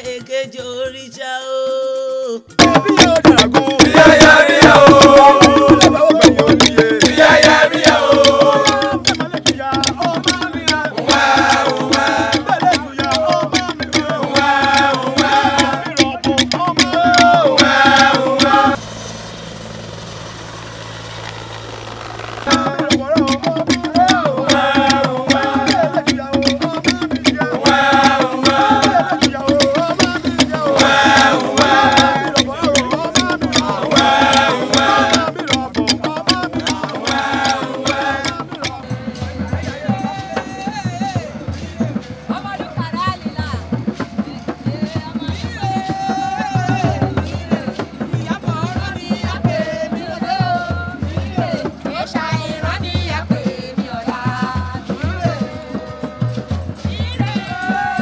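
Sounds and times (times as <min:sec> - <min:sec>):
men singing a chant: 0:00.0 - 0:18.8, 0:22.4 - 0:58.0
hand drums: 0:02.1 - 0:19.0, 0:19.6 - 0:58.0.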